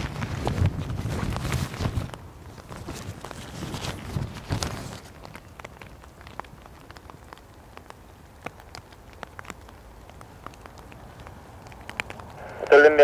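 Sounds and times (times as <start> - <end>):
rain hiss: 0.0 - 13.0
raindrops ticking on hard surface: 0.0 - 13.0.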